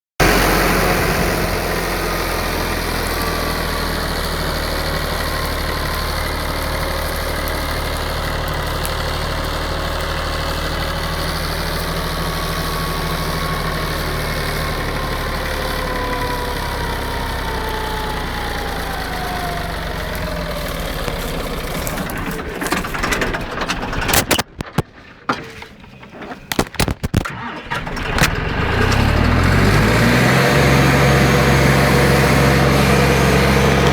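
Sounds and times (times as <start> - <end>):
tractor engine running and stumbling: 0.2 - 33.9.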